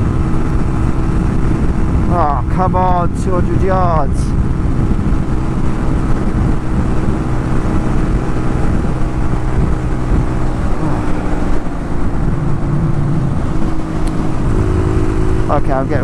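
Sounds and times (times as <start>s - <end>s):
motorcycle engine running hard: 0.0s - 16.0s
road noise: 0.0s - 16.0s
wind rush: 0.0s - 16.0s.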